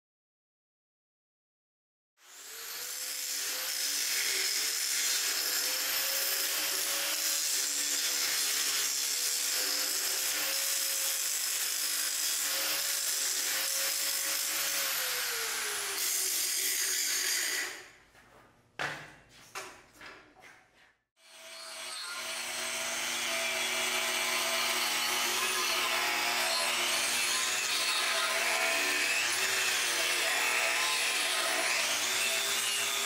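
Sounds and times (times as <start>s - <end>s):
angle grinder grinding steel: 2.2s - 18.0s, 21.2s - 33.0s.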